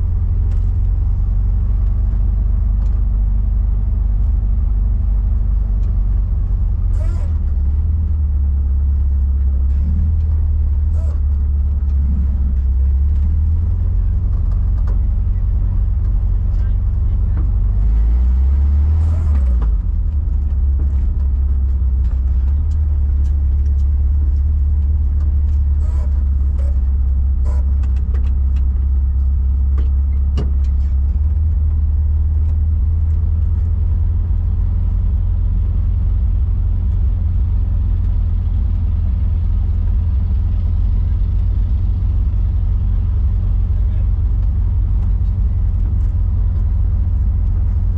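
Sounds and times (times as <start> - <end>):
car engine and road drone: 0.0 - 47.9.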